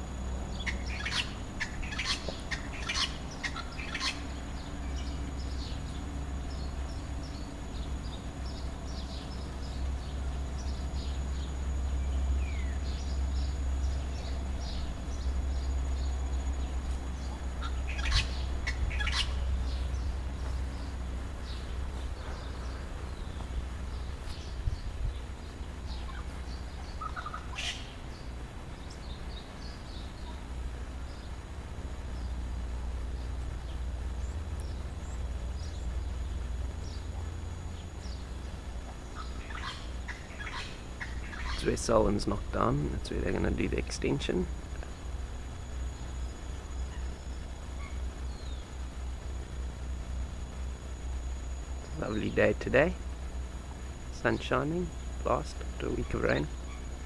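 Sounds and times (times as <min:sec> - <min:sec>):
birds chirping and calling: 0:00.0 - 0:57.0
steady low rumble: 0:00.0 - 0:57.0.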